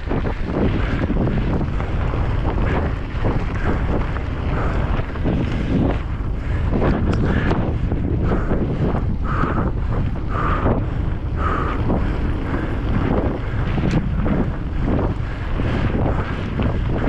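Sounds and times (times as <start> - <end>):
bike tyre rumble on trail: 0.0 - 17.0
wind buffeting microphone: 0.0 - 17.0.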